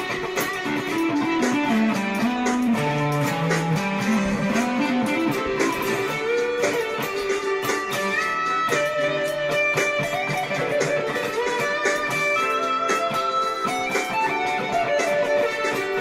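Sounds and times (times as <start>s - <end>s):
distorted electric guitar melody: 0.0s - 16.0s.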